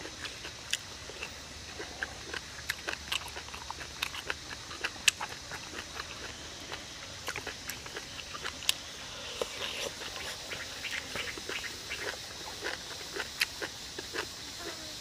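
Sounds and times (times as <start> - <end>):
person chewing: 0.0 - 14.4.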